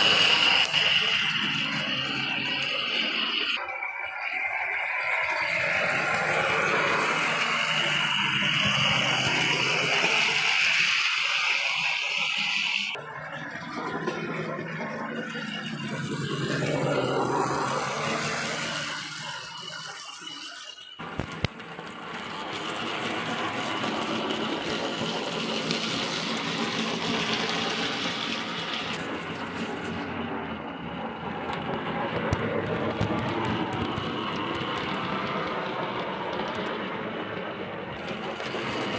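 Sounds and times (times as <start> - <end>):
model train rattling on track: 0.0 - 38.9.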